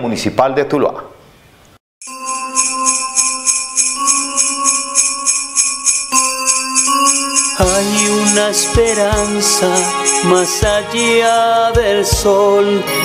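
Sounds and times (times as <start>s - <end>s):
held instrumental notes: 2.0s - 13.0s
jingle bells shaken to a beat: 2.0s - 13.0s.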